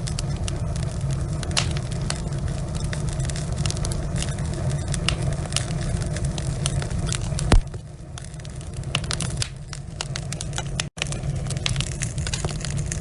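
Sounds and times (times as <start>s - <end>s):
log fire crackling: 0.0s - 13.0s
low steady rumble: 0.0s - 13.0s.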